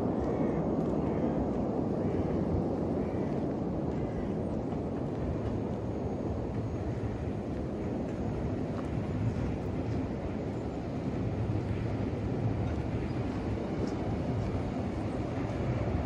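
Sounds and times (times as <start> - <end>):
low rushing outdoor noise: 0.0 - 16.0.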